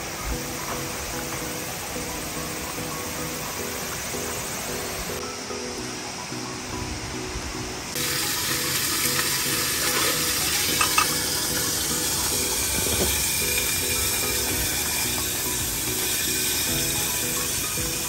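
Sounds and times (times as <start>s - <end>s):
soft background music: 0.0s - 18.0s
steady hiss: 0.0s - 18.0s.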